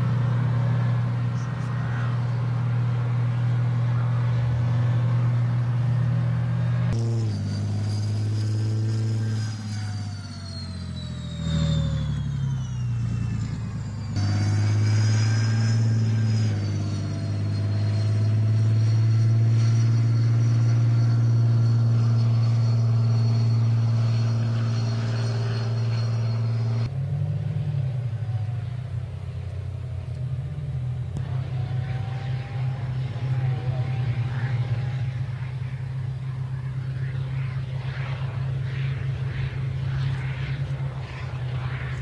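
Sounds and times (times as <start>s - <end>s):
high engine whine: 0.0s - 42.0s
tank engine drone: 0.0s - 42.0s.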